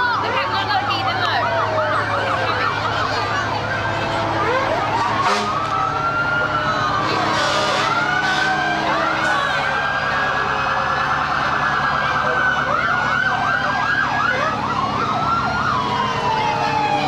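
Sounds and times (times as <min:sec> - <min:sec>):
emergency vehicle sirens: 0:00.0 - 0:17.0.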